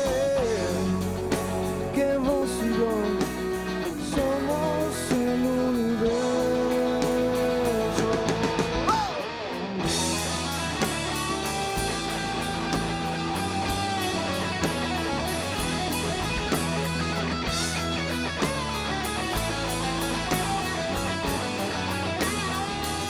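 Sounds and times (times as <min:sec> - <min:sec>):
electric guitar: 0:00.0 - 0:23.0
rock band playing live: 0:00.0 - 0:23.0.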